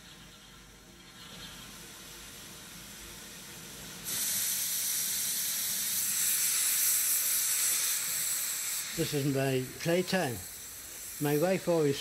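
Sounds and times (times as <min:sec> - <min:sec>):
steam locomotive hissing: 0:00.0 - 0:12.0
loud steam escaping hiss: 0:01.2 - 0:12.0.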